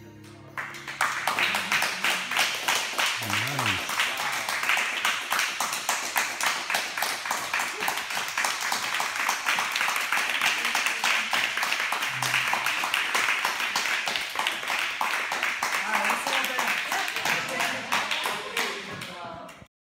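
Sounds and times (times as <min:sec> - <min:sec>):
audience applauding: 0:00.6 - 0:19.3.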